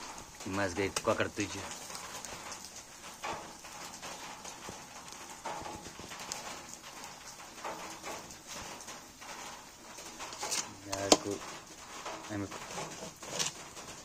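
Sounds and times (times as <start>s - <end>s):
charcoal fire crackling: 0.0s - 14.0s
meat grilling hiss: 0.0s - 14.0s.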